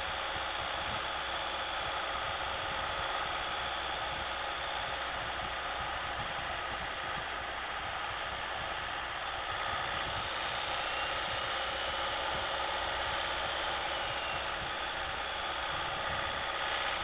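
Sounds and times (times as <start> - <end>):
diesel engine hum: 0.0 - 17.0.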